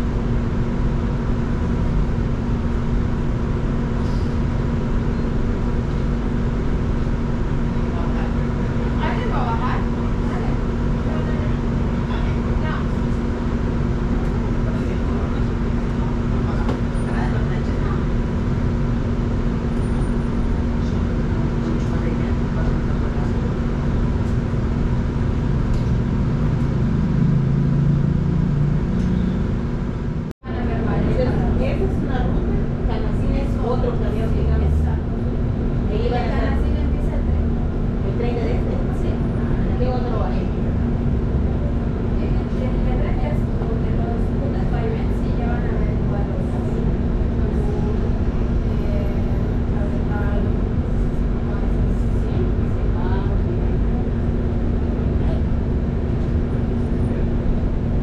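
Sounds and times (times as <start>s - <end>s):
constant low hum: 0.0s - 58.0s
electric bus running noise: 0.0s - 58.0s.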